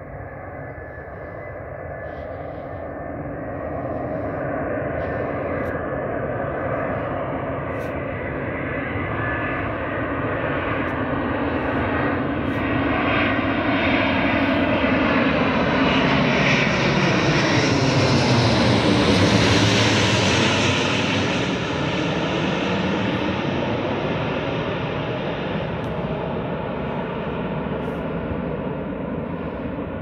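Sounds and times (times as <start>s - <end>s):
jet aircraft passing overhead: 0.0s - 30.0s.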